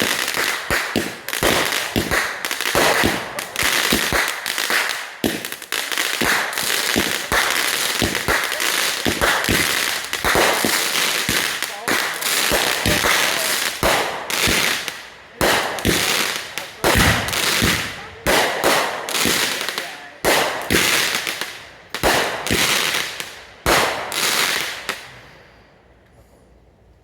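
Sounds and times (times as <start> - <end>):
fireworks bangs: 0.0 - 25.5
fireworks crackling hiss: 0.0 - 26.4.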